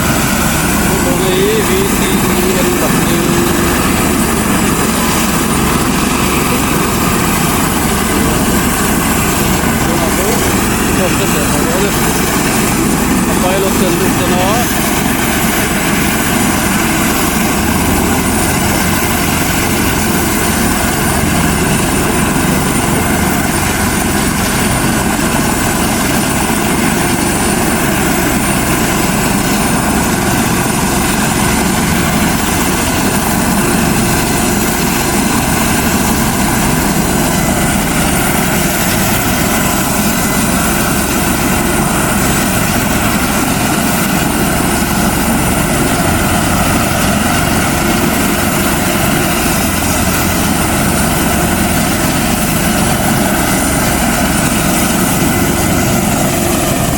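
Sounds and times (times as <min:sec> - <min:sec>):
helicopter engine and rotor: 0:00.0 - 0:56.9.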